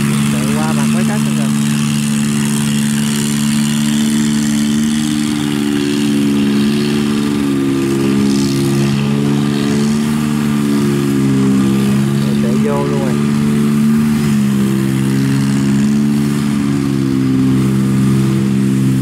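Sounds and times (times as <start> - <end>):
harvester engines droning: 0.0 - 19.0.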